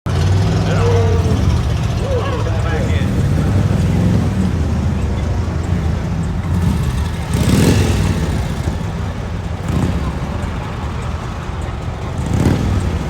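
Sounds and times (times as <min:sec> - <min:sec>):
old vehicle engine rumbling: 0:00.0 - 0:13.0.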